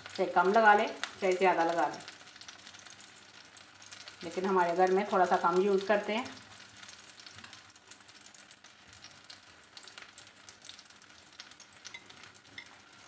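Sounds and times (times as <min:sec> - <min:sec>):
bread sizzling in oil: 0:00.0 - 0:13.0.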